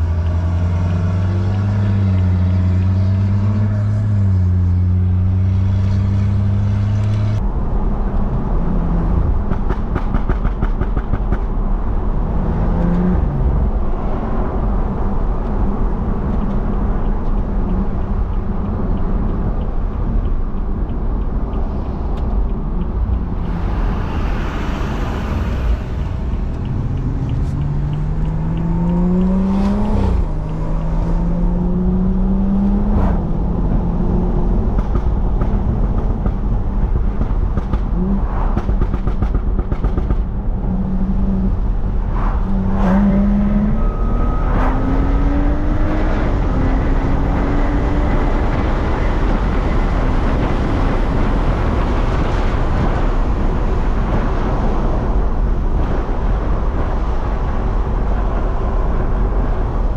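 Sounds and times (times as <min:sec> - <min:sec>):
car engine accelerating through gears: 0:00.0 - 0:07.4, 0:11.9 - 0:20.6, 0:21.4 - 0:59.9.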